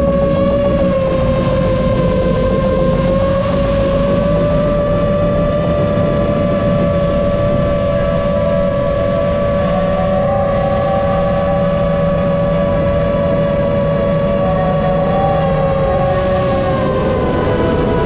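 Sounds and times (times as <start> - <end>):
drone motors whining: 0.0 - 18.0
wind rumble on microphone: 0.0 - 18.0.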